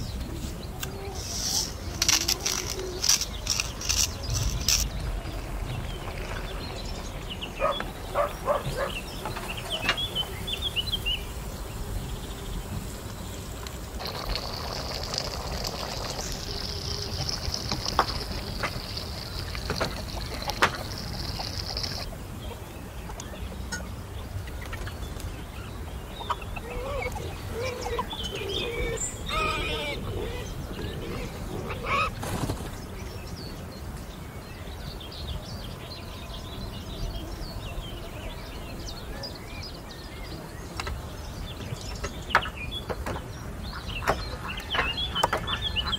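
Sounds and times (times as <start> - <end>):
birds wavering calls: 0.0 - 33.7, 39.3 - 45.9.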